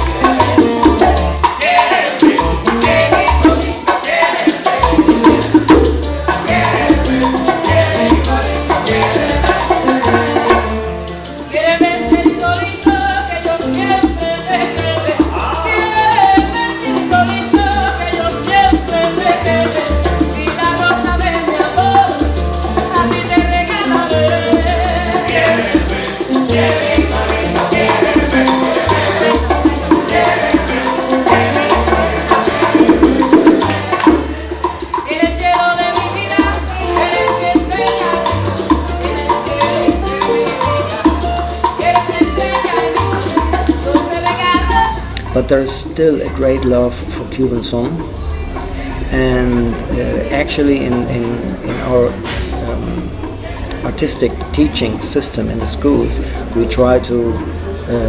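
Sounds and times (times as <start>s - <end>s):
latin band playing: 0.0s - 58.0s.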